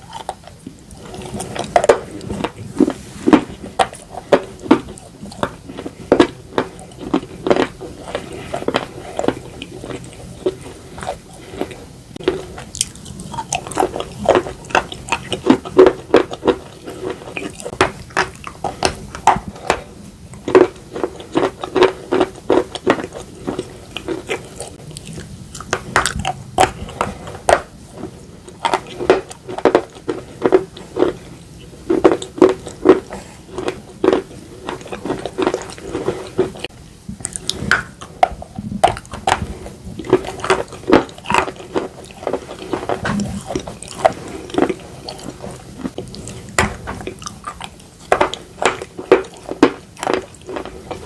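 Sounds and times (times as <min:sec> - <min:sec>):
crisp chewing crunches: 0:00.0 - 0:51.0.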